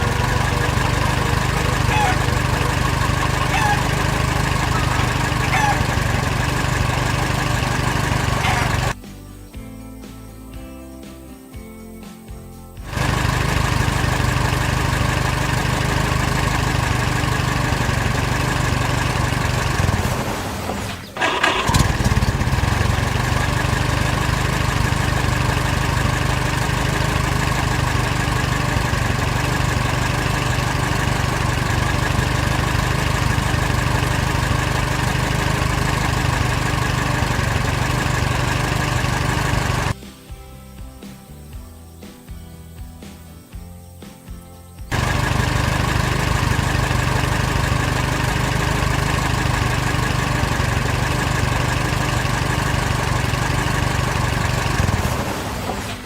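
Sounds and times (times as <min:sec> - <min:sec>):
motor engine running: 0:00.0 - 0:09.0, 0:12.8 - 0:40.0, 0:44.9 - 0:56.0.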